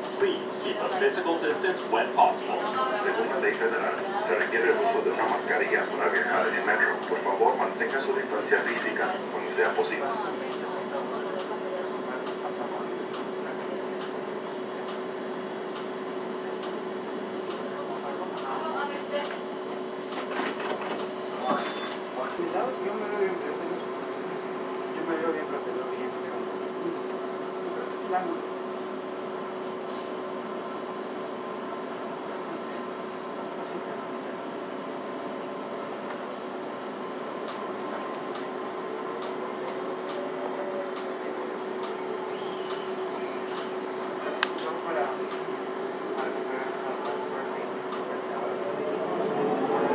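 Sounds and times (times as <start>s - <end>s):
bus interior hum: 0.0s - 25.6s, 33.2s - 49.9s.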